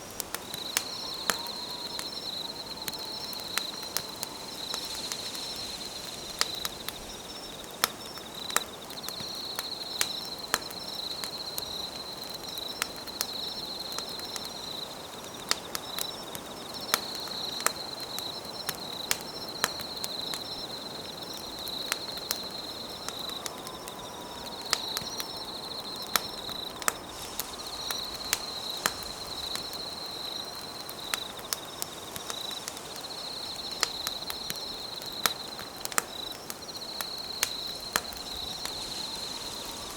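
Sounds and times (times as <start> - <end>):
campfire crackling and popping: 0.0 - 39.9
night insects trilling: 0.0 - 39.9.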